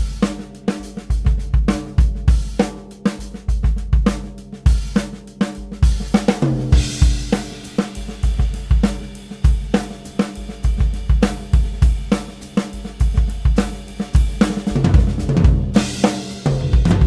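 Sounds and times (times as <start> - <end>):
drum kit playing a groove: 0.0 - 17.0.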